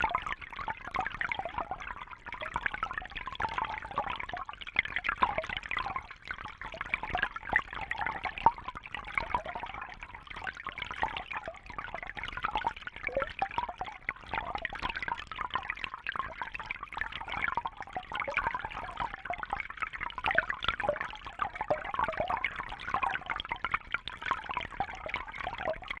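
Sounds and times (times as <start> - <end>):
water bubbling and gurgling: 0.0 - 26.0.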